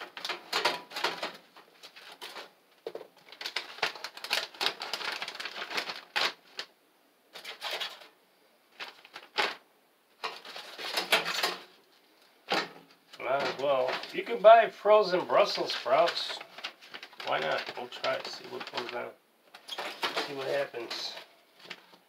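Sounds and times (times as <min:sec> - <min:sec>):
plastic bag crinkling: 0:00.0 - 0:09.6, 0:10.2 - 0:11.8, 0:12.4 - 0:22.0.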